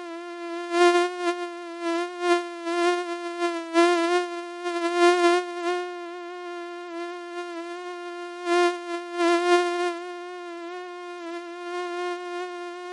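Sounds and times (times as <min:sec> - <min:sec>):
mosquito whine: 0:00.0 - 0:12.9.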